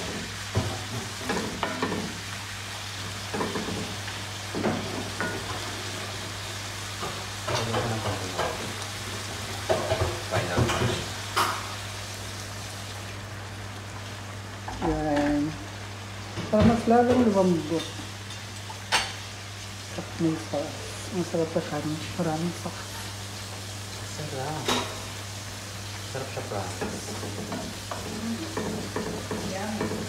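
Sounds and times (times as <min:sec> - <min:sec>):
food sizzling: 0:00.0 - 0:30.0.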